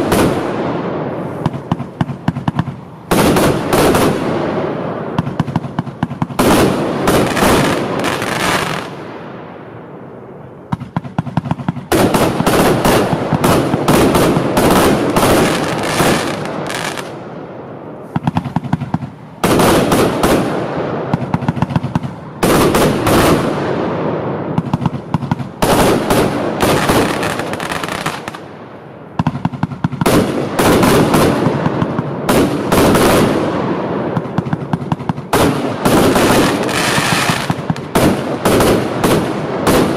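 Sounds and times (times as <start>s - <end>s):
firework volleys of sharp bangs: 0.0s - 39.9s.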